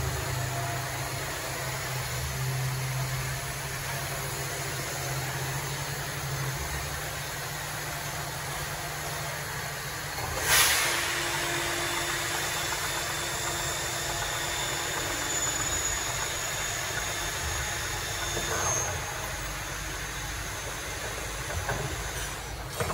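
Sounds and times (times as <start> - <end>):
higher machine hum: 0.0 - 22.9
machine motors humming: 0.0 - 22.9.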